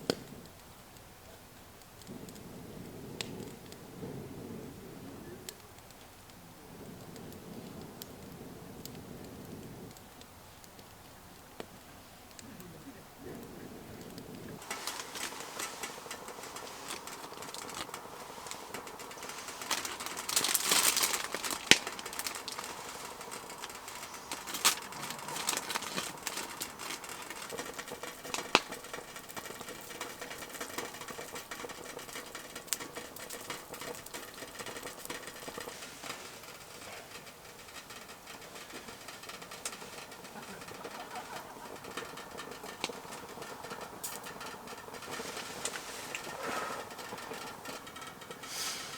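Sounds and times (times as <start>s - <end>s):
campfire crackling: 0.0s - 48.9s
fire hissing flare-up: 0.0s - 48.9s.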